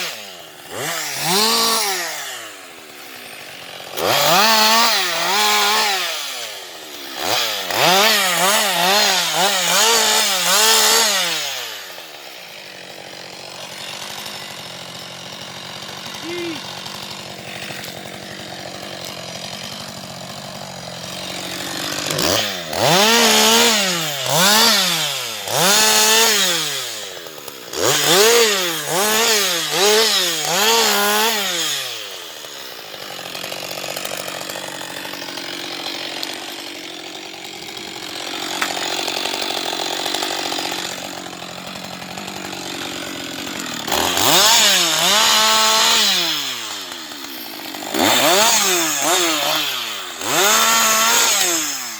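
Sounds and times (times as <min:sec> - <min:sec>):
chainsaw idling and revving: 0:00.0 - 0:51.9.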